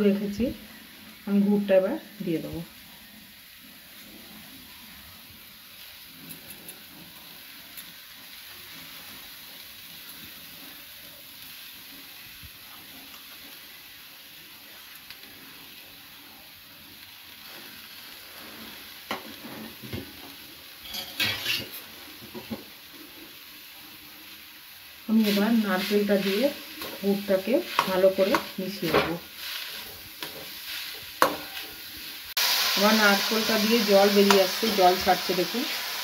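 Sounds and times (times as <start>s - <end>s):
faint sizzle in a pan: 0.0s - 36.0s.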